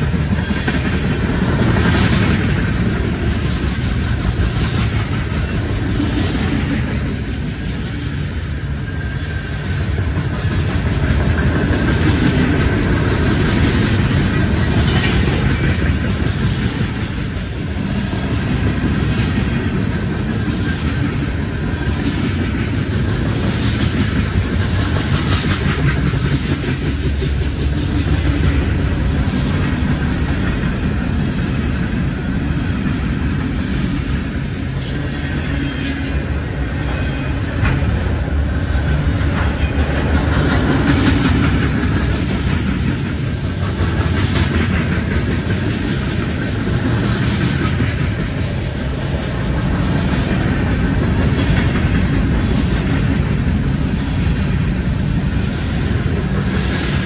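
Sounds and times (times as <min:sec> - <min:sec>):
steel wheels rumbling on rails: 0:00.0 - 0:57.0
wheels clicking over rail joints: 0:00.0 - 0:57.0.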